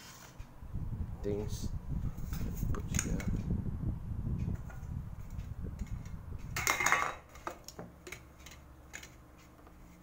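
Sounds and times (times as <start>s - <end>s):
rumble of handling: 0.3s - 10.0s.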